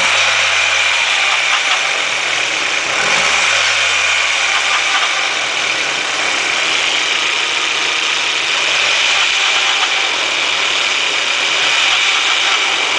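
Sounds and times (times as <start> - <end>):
car engine idling with rattle: 0.0 - 12.9.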